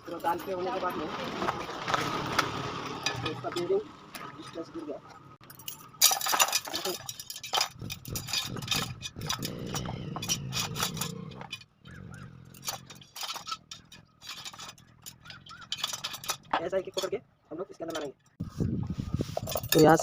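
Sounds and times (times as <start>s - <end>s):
metal wheel spokes clinking: 0.0s - 18.4s, 19.3s - 20.0s.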